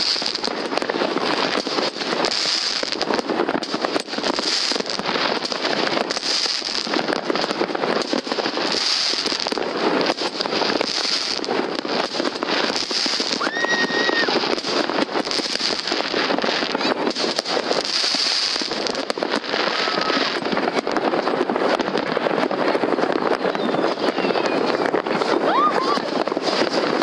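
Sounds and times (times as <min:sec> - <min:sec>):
firework whistle: 0:00.0 - 0:21.0, 0:21.8 - 0:27.0
fireworks crackling and banging: 0:00.0 - 0:27.0.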